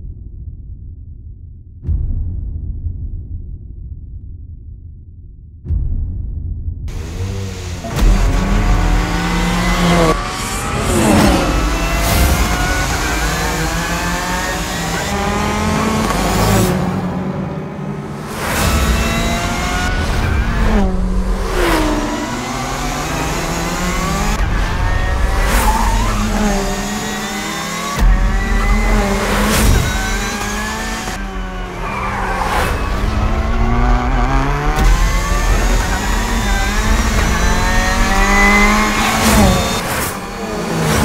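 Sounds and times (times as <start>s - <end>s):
race car engine revving: 6.9s - 41.0s.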